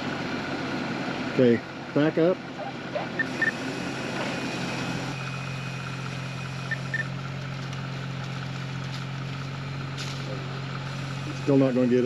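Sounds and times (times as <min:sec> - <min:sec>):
engine idling at low revs: 0:00.0 - 0:12.0.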